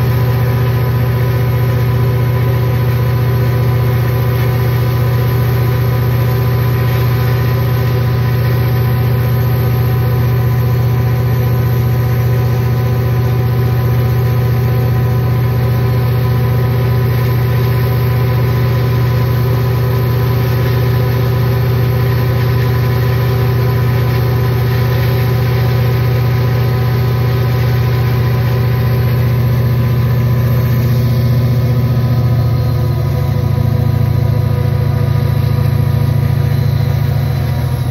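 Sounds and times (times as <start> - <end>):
diesel locomotive engine droning: 0.0 - 37.9.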